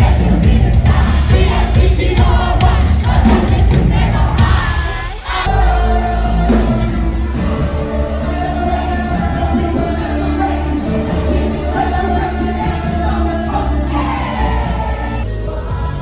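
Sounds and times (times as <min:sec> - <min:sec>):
crowd singing and chanting: 0:00.0 - 0:16.0
music: 0:00.0 - 0:16.0.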